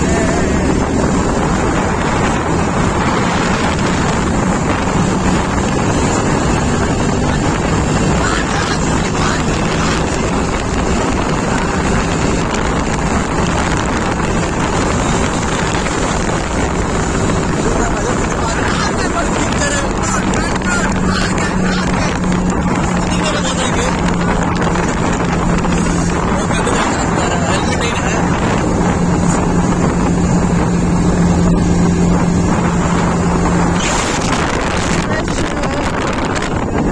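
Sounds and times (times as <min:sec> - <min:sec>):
motorcycle engine running: 0:00.0 - 0:36.9
wind rushing over microphone: 0:00.0 - 0:36.9.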